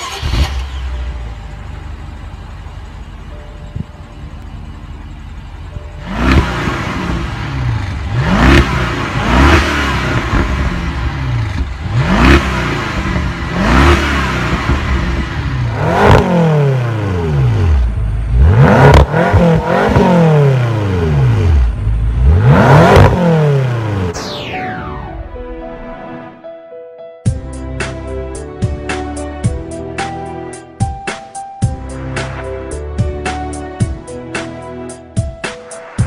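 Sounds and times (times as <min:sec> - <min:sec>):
car engine idling and revving: 0:00.0 - 0:25.1, 0:27.3 - 0:36.0.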